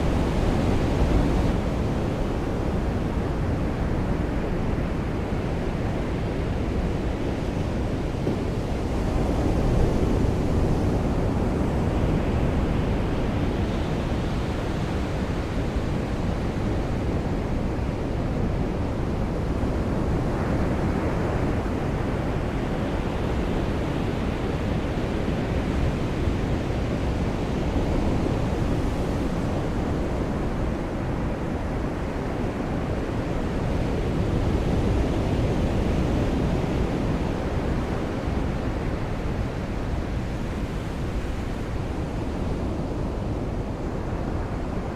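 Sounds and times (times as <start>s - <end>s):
ocean waves washing onto beach: 0.0s - 44.9s.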